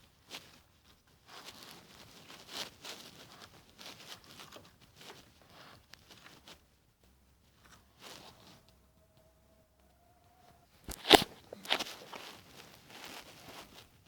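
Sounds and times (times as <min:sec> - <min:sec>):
faint rustling and scratching: 0:00.0 - 0:14.0.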